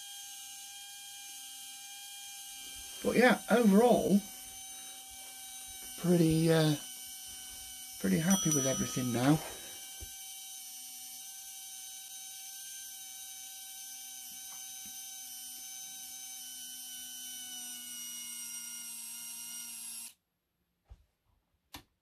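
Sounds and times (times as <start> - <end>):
small electric motor whining: 0.0 - 20.2.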